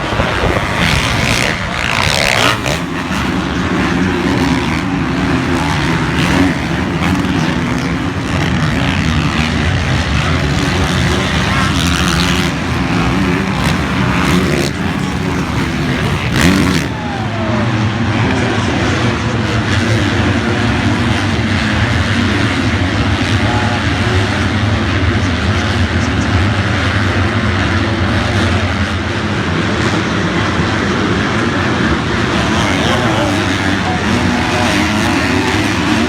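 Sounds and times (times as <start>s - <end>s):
motocross bike engines revving: 0.0s - 36.0s.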